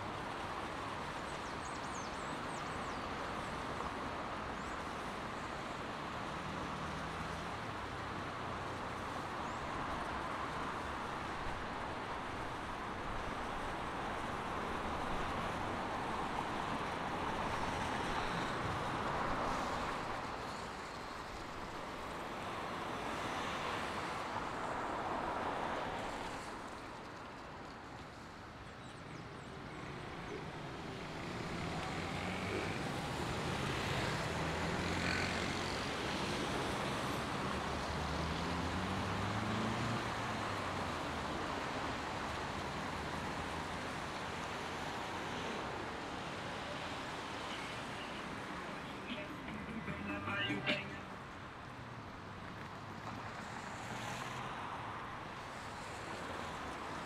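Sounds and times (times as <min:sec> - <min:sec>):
tyres hissing on wet road: 0:00.0 - 0:57.0.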